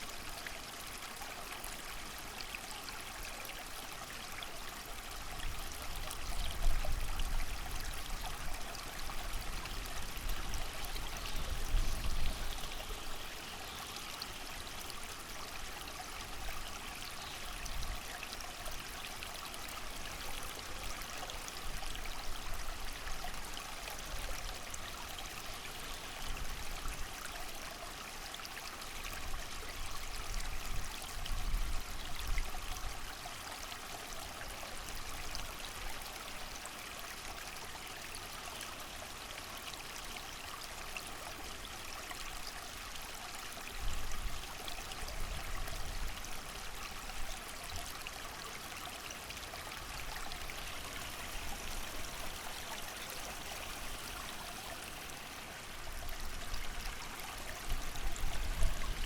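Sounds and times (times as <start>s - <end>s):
creek running: 0.0s - 59.0s.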